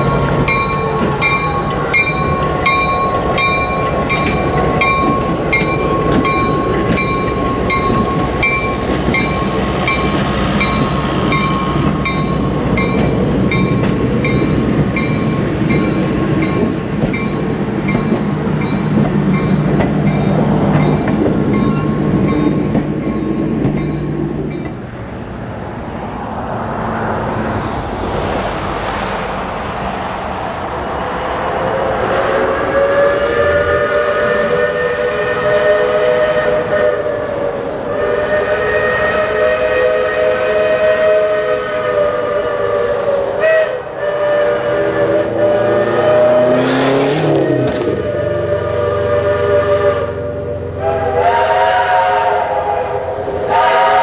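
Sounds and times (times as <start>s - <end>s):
diesel locomotive engine rumbling: 0.0s - 54.0s.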